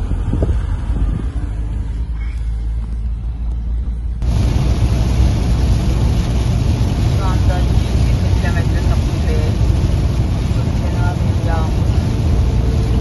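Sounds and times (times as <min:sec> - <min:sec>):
heavy rain and tyre spray hiss: 0:00.0 - 0:13.0
vehicle road rumble: 0:00.0 - 0:13.0.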